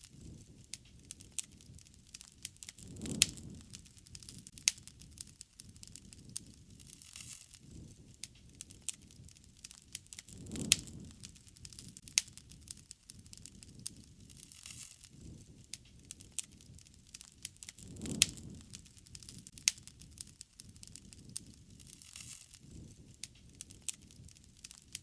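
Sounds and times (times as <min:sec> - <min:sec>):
campfire pops and snaps: 0:00.0 - 0:25.0
low rumble of burning flames: 0:00.0 - 0:25.0.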